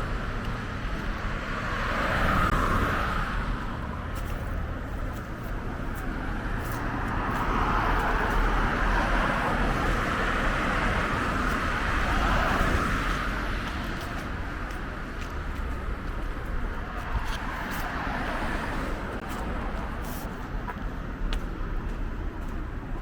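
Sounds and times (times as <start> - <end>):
cars passing: 0.0 - 23.0
low traffic rumble: 0.0 - 23.0.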